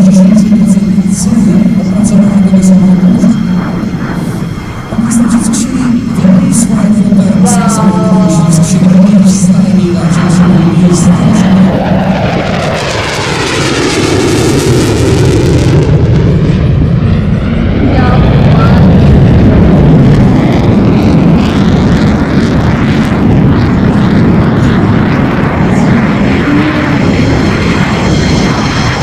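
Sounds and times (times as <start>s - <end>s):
jet engine roaring in flypast: 0.0s - 29.0s.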